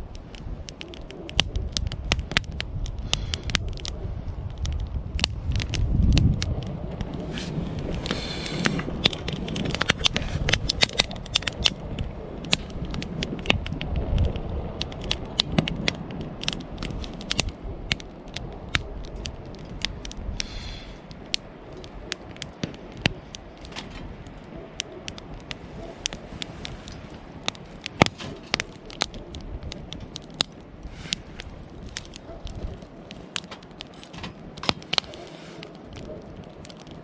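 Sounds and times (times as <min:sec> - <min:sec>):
campfire crackling and popping: 0:00.0 - 0:37.0
low rush of burning: 0:00.0 - 0:37.0.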